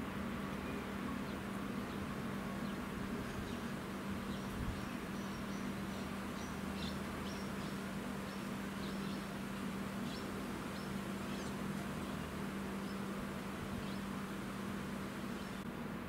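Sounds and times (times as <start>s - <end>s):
distant small birds chirping: 0.0s - 15.8s.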